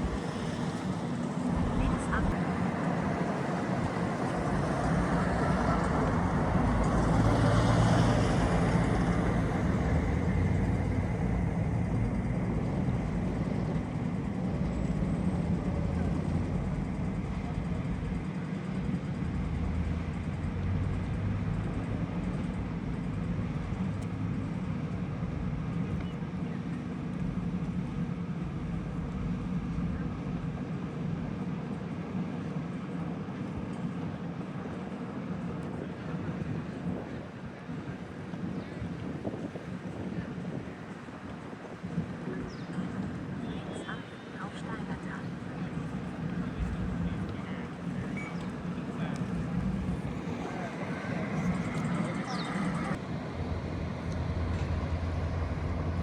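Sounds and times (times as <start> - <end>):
boat engine drone: 0.0 - 56.0
wind: 0.0 - 56.0.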